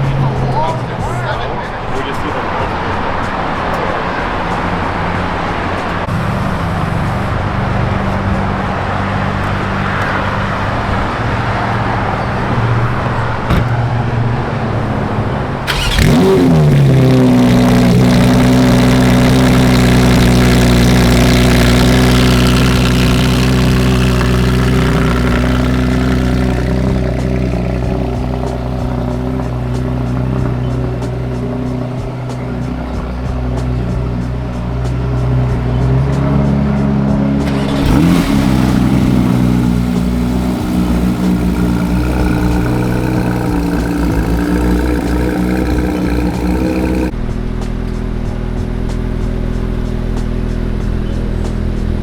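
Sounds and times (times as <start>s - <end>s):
car engine starting and idling: 0.0s - 52.0s
car road noise: 0.0s - 52.0s.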